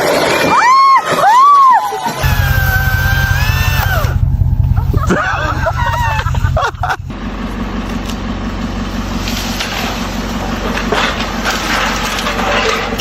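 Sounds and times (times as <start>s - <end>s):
loud rough noise: 2.2s - 13.0s
low engine running: 2.2s - 13.0s.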